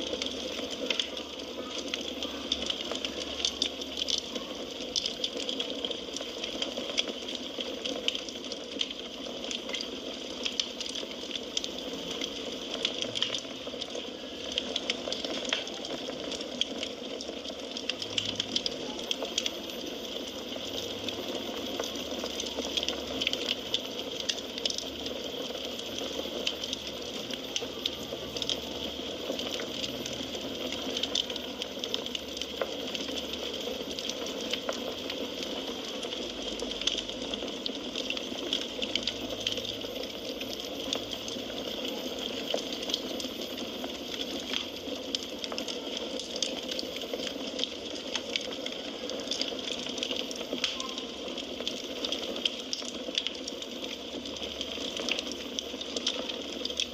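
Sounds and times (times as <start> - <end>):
firewood crackling: 0.0 - 56.9.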